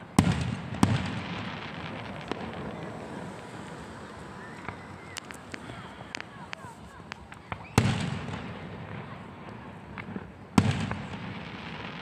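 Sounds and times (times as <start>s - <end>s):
firework bangs: 0.0s - 12.0s
fireworks crackling hiss: 0.0s - 12.0s
sharp firework cracks: 0.0s - 12.0s.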